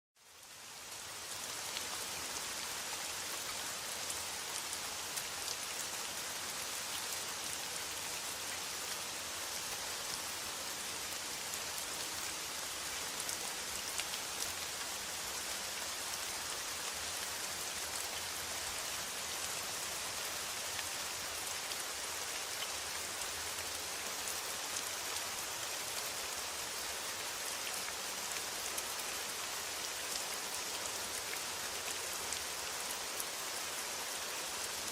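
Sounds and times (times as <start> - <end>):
rain on a metal roof: 0.2 - 34.9.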